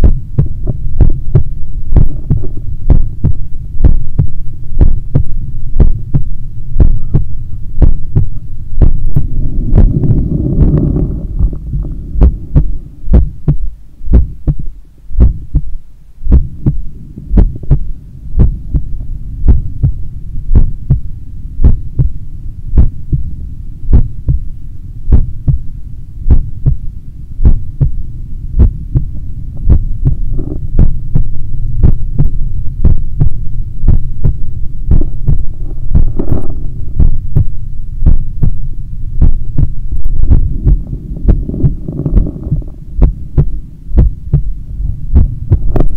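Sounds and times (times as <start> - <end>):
heartbeat: 0.0 - 24.5, 25.1 - 45.9
steady low rumble: 0.0 - 45.9.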